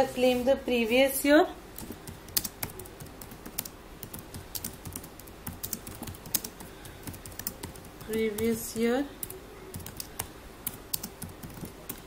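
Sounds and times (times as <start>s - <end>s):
typing on computer keyboard: 1.8s - 12.0s.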